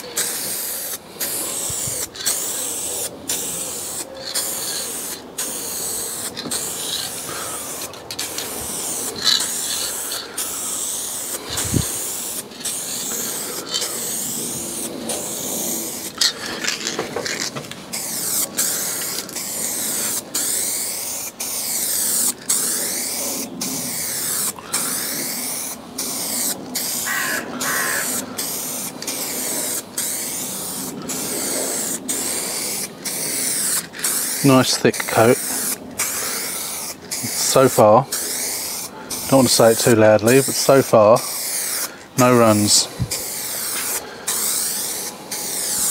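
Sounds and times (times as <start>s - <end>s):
aerosol paint spraying: 0.0s - 45.9s.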